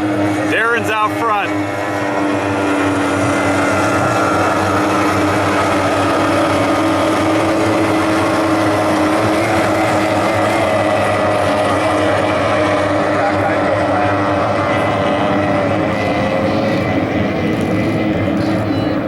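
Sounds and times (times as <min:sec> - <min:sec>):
racing boat engines droning: 0:00.0 - 0:19.0.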